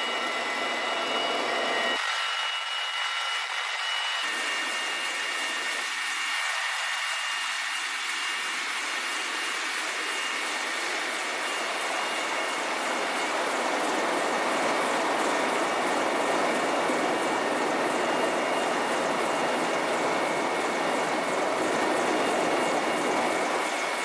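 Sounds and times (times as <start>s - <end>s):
helicopter engine rushing: 0.0s - 24.0s
high turbine whine: 0.0s - 24.0s.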